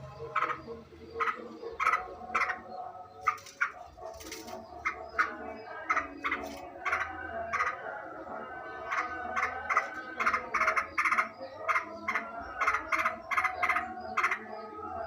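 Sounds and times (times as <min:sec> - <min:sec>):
bird chattering call: 0:00.0 - 0:07.9, 0:08.8 - 0:14.7.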